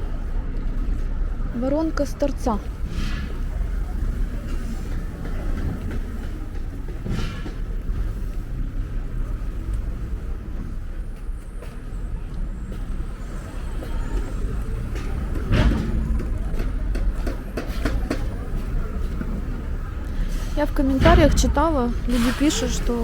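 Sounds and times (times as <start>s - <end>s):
low street rumble: 0.0s - 23.0s
burst of street noise: 2.6s - 23.0s.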